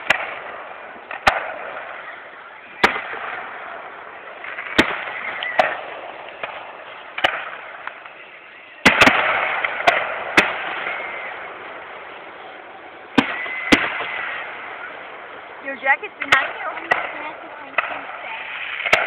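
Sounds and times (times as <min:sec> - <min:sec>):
background noise: 0:00.0 - 0:19.0
fireworks bursting: 0:00.0 - 0:19.0.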